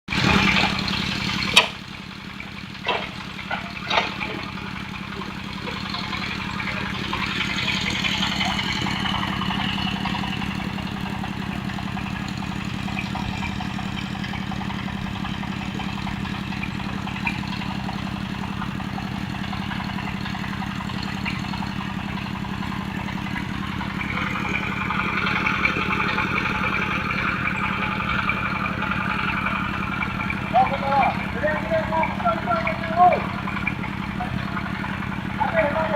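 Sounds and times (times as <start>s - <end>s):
drilling rig engine droning: 0.0s - 35.9s.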